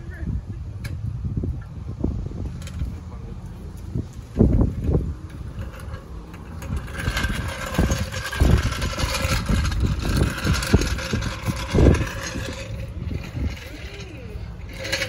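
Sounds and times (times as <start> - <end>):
floor jack wheels rattling on concrete: 0.8 - 15.0.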